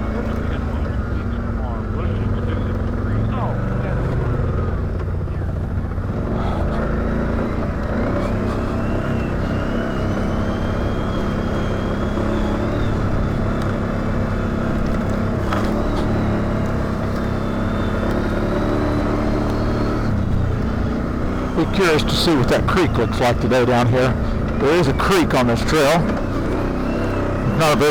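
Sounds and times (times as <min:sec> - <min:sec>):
atv engine running: 0:00.0 - 0:27.9.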